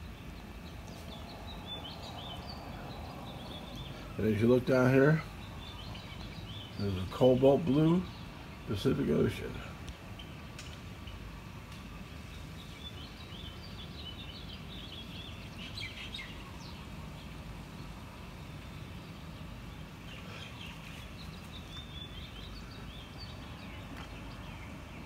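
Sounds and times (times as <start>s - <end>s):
low outdoor rumble: 0.0s - 25.0s
small birds twittering: 0.0s - 25.0s.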